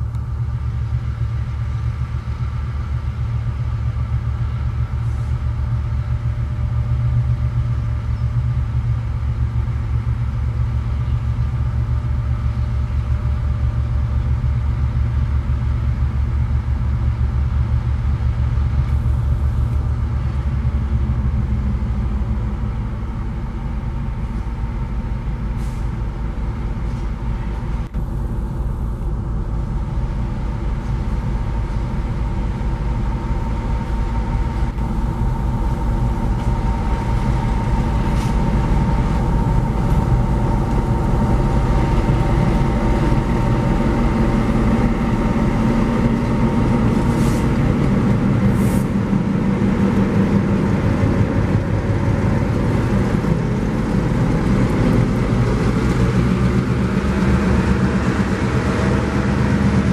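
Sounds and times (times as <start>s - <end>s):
locomotive diesel engines: 0.0s - 59.9s
steady whine: 0.0s - 59.9s.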